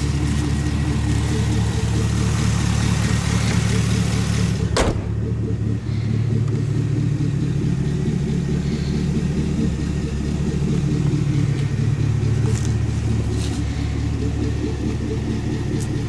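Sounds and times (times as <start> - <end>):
car exhaust rumbling: 0.0 - 16.0.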